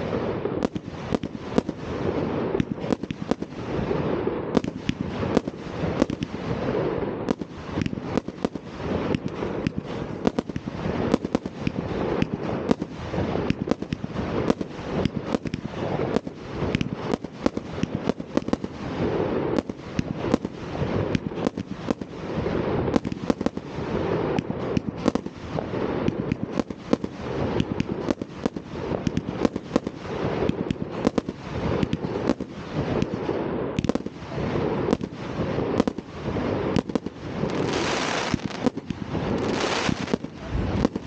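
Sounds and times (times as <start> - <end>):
fireworks bangs and crackling: 0.0 - 41.0
rumble of rockets: 0.0 - 41.0.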